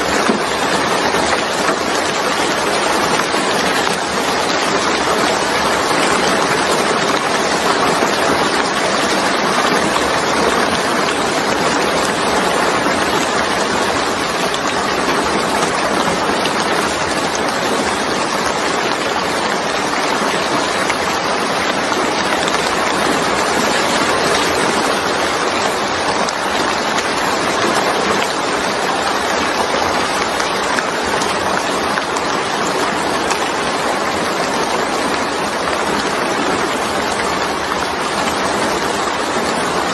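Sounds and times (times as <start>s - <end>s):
steady rain splashing: 0.0s - 39.9s.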